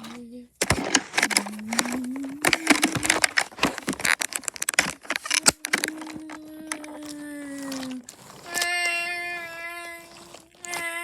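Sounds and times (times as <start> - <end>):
wooden toy trains clattering: 0.0 - 11.0.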